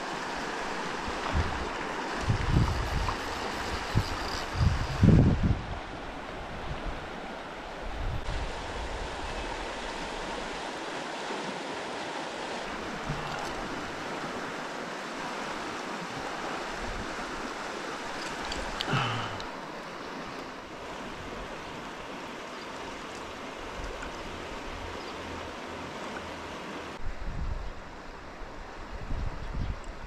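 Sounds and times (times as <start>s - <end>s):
river water flowing: 0.0s - 27.2s.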